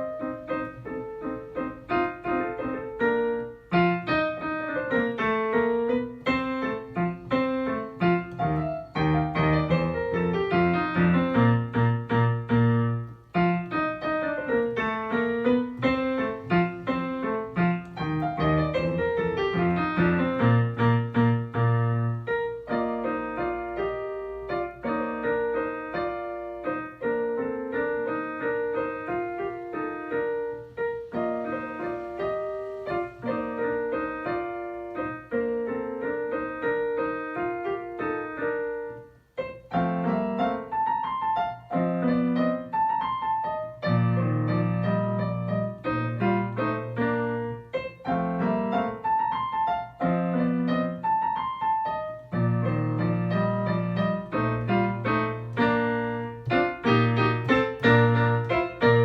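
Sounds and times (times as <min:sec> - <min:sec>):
solo piano dance piece: 0:00.0 - 0:59.0.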